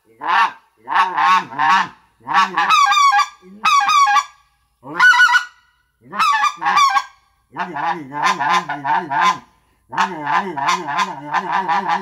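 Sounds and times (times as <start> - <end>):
goose call honks: 0.0 - 12.0.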